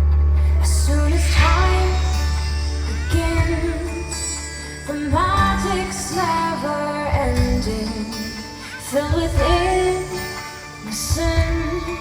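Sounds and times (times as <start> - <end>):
song over loudspeakers: 0.0 - 12.0.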